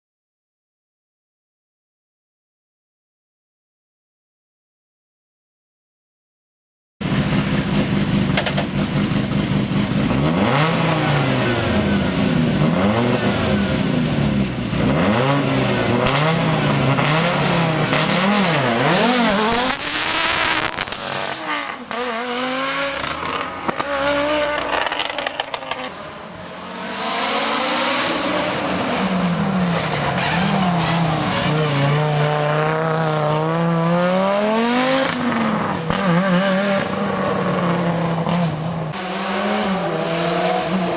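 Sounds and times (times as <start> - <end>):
rally car engine revving: 7.0 - 40.9.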